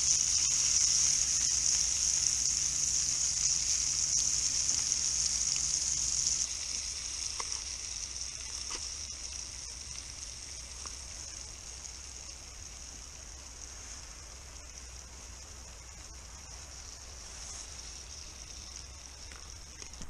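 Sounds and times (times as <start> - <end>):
fish sizzling in a pot: 0.0 - 20.0.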